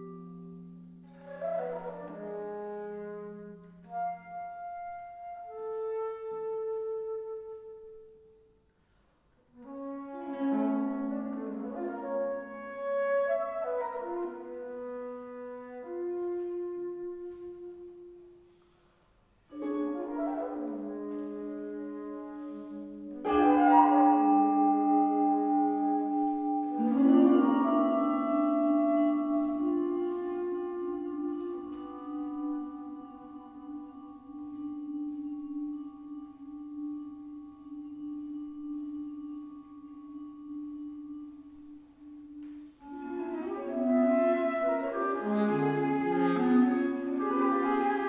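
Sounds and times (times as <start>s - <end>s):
slow quiet chamber music: 0.0s - 48.0s.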